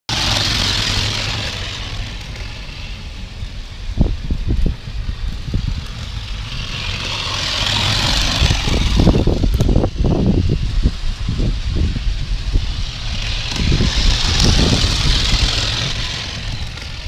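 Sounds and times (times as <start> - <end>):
low rumble: 0.1 - 17.0
steam engine hissing: 0.1 - 17.0.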